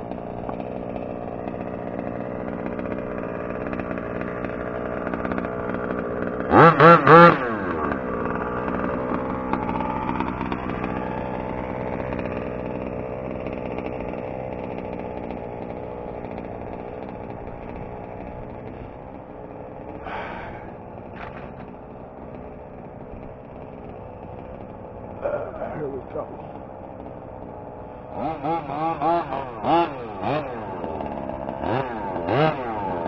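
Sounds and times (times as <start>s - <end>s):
small two-stroke engine running: 0.0s - 33.0s.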